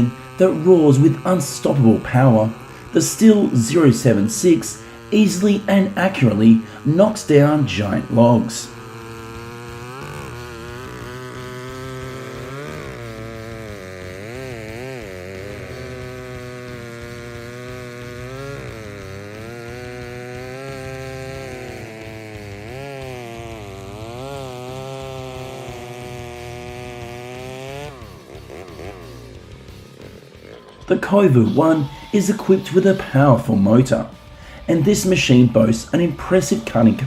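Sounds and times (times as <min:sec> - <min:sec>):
chainsaw cutting a log: 0:00.0 - 0:37.0.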